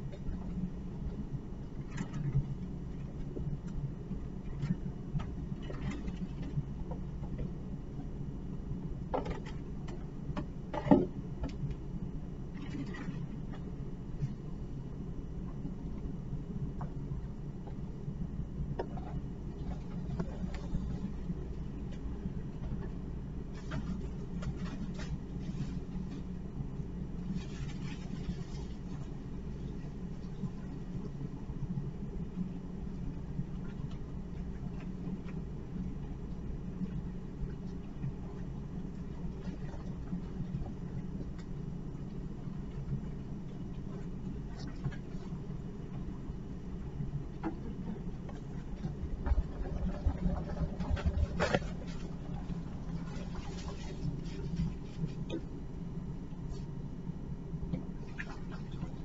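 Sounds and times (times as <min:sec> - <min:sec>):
low room hum: 0:00.0 - 0:59.0
faint clicks and rustles: 0:09.1 - 0:31.3, 0:32.1 - 0:59.0.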